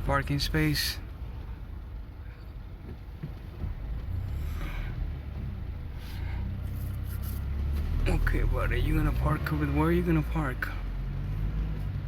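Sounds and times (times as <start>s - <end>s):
pickup engine and tyres rumbling: 0.0s - 12.0s.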